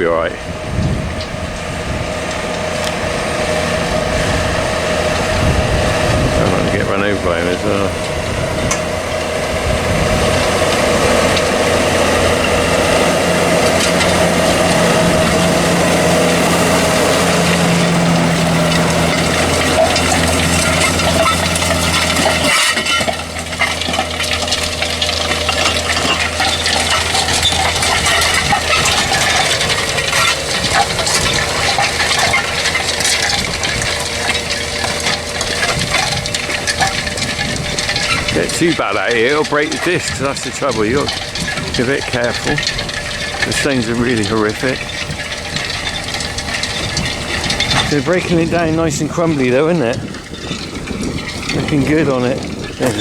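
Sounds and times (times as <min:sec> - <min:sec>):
discs and stones clattering: 0:00.0 - 0:53.0
tractor engine under load: 0:00.0 - 0:53.0.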